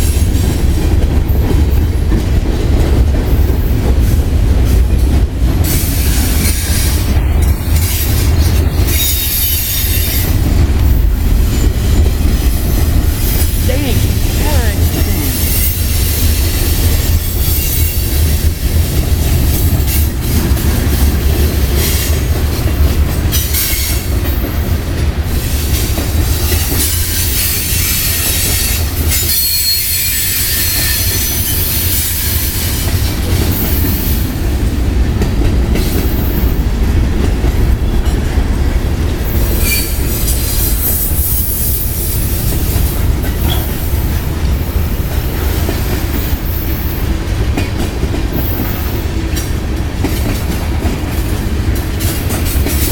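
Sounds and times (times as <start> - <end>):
freight train rumbling over rails: 0.0 - 52.9.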